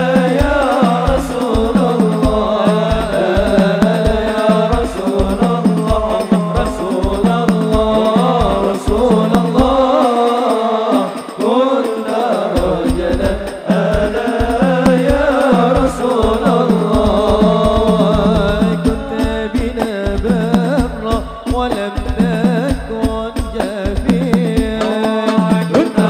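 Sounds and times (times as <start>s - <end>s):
hand drums and bass drum: 0.0s - 26.0s.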